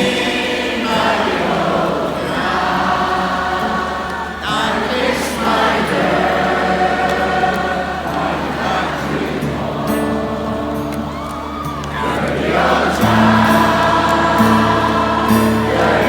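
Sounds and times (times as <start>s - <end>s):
crowd singing along: 0.0s - 16.0s
live folk-rock band: 0.0s - 16.0s.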